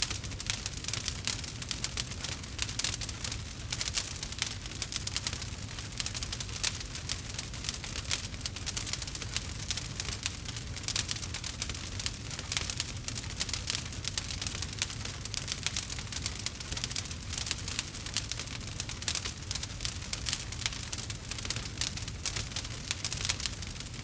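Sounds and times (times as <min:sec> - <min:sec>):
low rumble of flame: 0:00.0 - 0:24.0
wood crackling and popping: 0:00.0 - 0:24.0.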